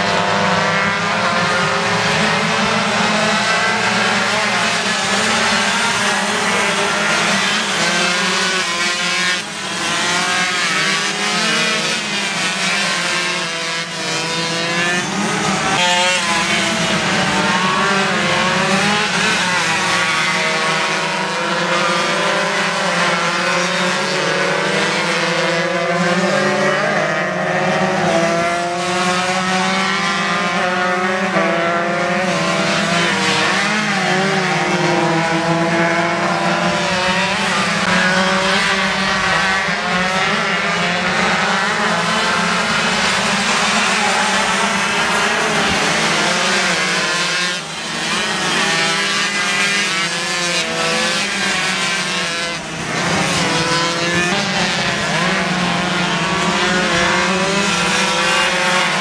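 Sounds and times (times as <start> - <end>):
racing motorcycles revving: 0.0 - 59.0.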